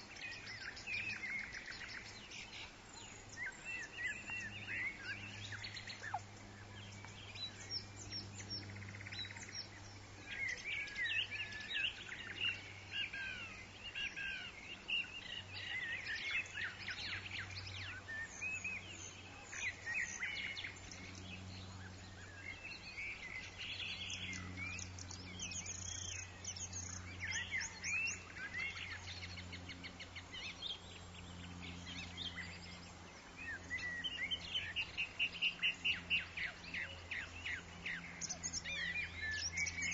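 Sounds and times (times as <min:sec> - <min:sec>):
birds chirping and warbling: 0:00.0 - 0:39.9
steady low hum: 0:00.0 - 0:39.9.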